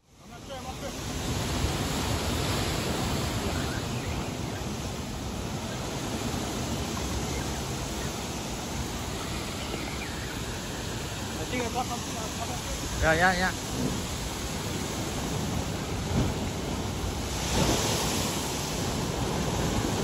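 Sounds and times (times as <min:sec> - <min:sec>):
ocean surf on rocky shore: 0:00.0 - 0:20.0.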